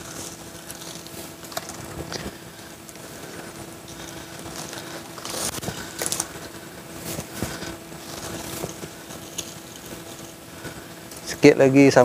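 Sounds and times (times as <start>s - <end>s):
net and rope rustling and scraping: 0.0s - 11.4s.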